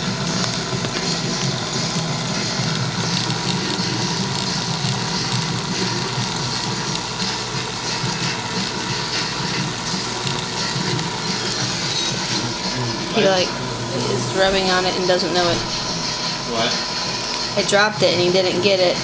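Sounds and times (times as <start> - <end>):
aquarium pump and filter running: 0.0 - 19.0.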